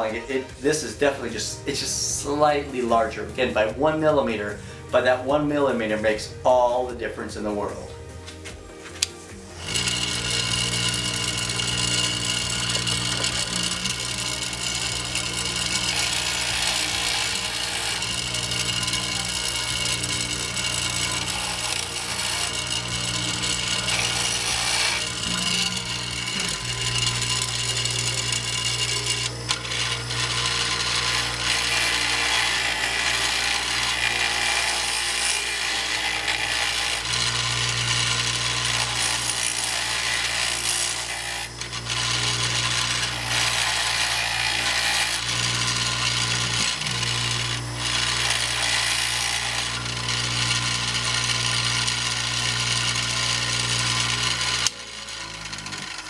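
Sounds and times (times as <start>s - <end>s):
bench grinder motor hum: 8.2s - 56.0s
metal grinding rasp: 8.2s - 56.0s.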